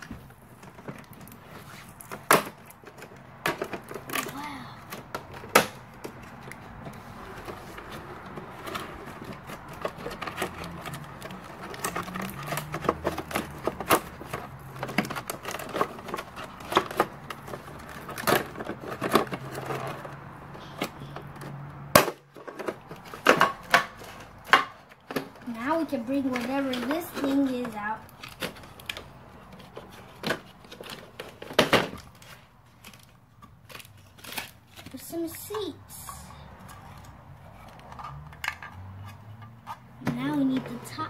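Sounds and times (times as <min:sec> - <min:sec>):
plastic toy parts clicking: 0:02.1 - 0:40.7.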